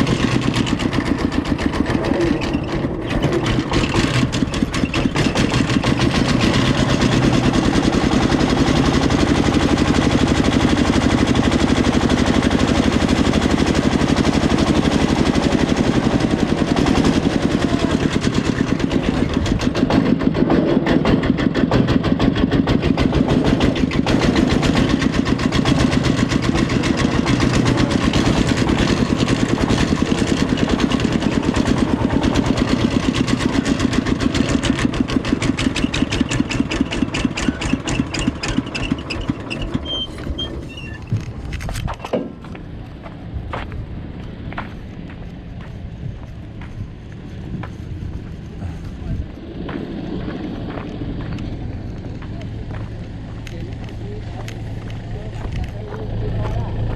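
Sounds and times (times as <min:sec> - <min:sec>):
diesel engine chugging: 0:00.0 - 0:56.9.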